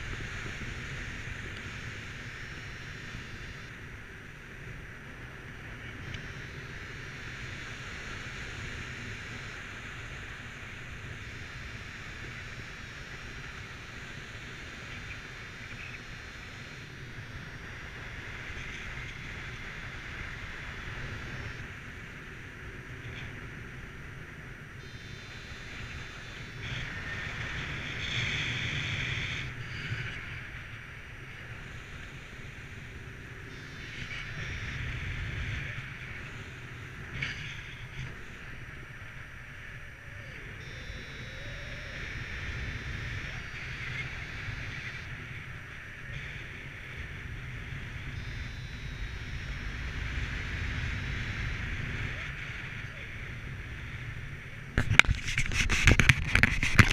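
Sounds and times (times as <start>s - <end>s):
low rumble of wind buffeting: 0.0s - 56.9s
wind hissing over microphone: 0.0s - 56.9s.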